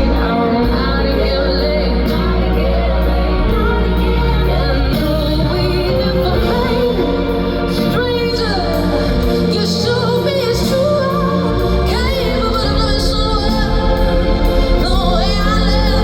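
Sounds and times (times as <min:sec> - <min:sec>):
instrumental accompaniment: 0:00.0 - 0:16.0
woman singing: 0:00.0 - 0:16.0.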